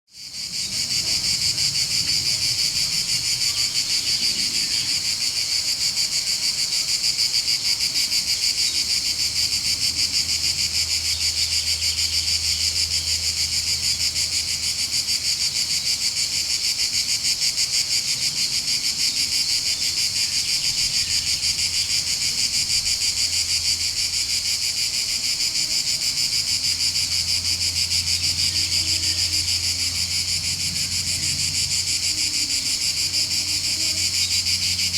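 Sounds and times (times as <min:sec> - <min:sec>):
cicadas buzzing: 0:00.1 - 0:34.9.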